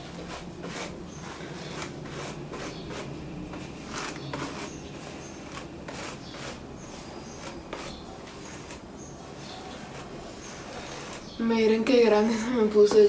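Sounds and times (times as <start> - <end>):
hairbrush swishing through hair: 0.0 - 11.4.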